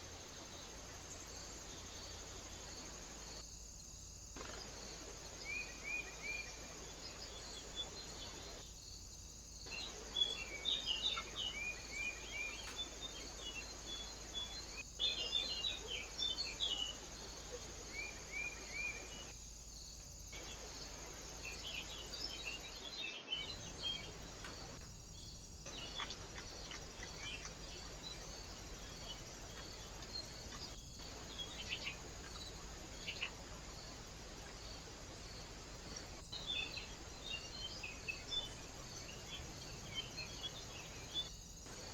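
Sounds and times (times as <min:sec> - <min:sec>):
high insect-like hiss: 0:00.0 - 0:41.9
small birds chirping: 0:00.0 - 0:41.9.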